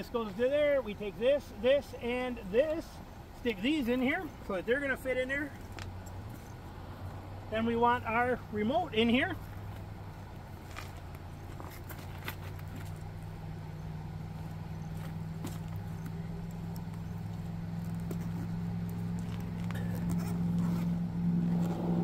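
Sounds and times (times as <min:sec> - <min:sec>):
engine idling hum: 0:00.0 - 0:22.0.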